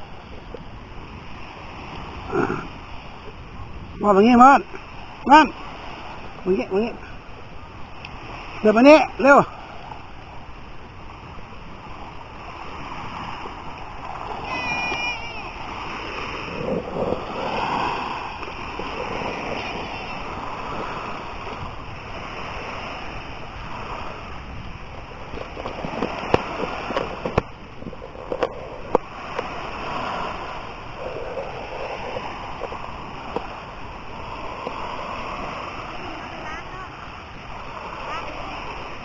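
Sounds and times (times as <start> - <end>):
surf washing and splashing: 0.0 - 39.0.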